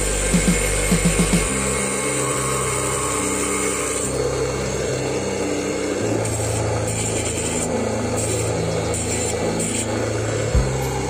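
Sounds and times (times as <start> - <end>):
background music: 0.0 - 11.0
table saw cutting: 0.0 - 11.0.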